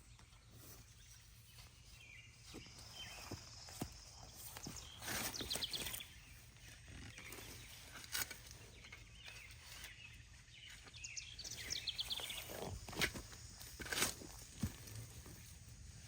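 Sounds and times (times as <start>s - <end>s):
birds chirping: 0.0s - 15.5s
digging in garden soil: 0.0s - 16.0s.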